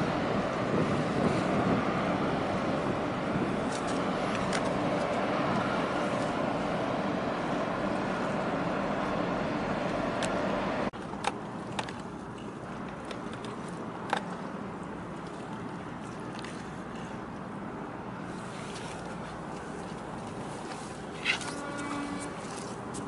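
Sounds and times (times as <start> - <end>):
boat engine: 0.0 - 23.0.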